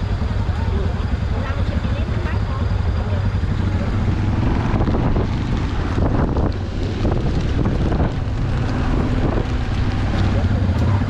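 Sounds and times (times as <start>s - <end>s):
vehicle engine and road rumble: 0.0s - 11.0s
wind buffeting microphone: 0.0s - 11.0s.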